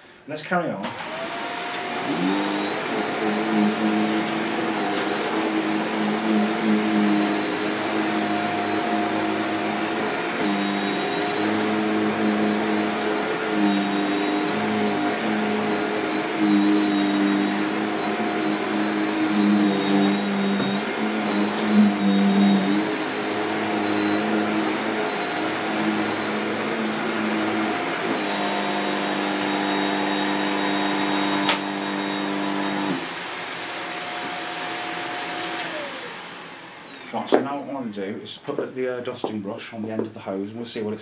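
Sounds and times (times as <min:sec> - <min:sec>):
vacuum cleaner running on carpet: 0:00.9 - 0:37.6.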